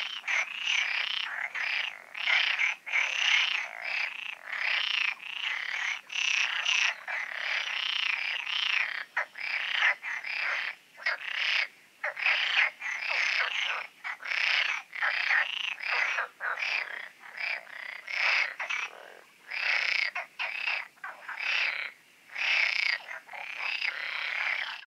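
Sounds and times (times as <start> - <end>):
frogs croaking: 0.0 - 24.9.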